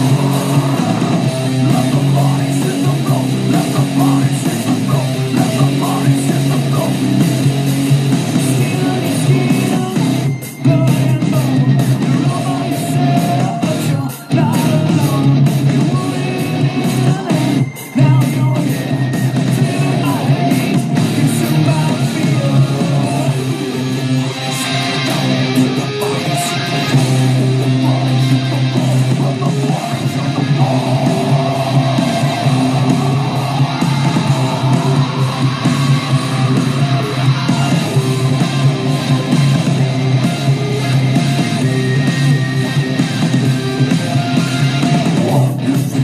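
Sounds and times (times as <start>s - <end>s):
rock music with electric guitar: 0.0s - 46.0s.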